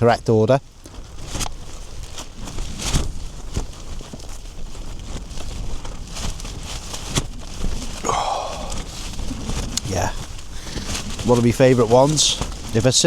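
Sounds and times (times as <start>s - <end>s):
wind rumble: 0.0s - 13.0s
handling knocks and rustles: 0.3s - 13.0s.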